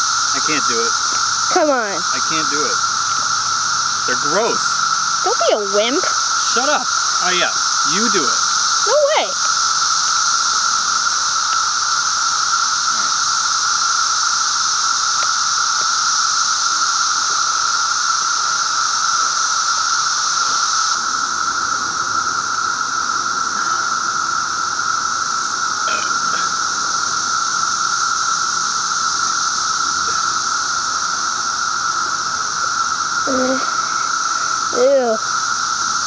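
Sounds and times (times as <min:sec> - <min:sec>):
cicadas chorus: 0:00.0 - 0:36.0.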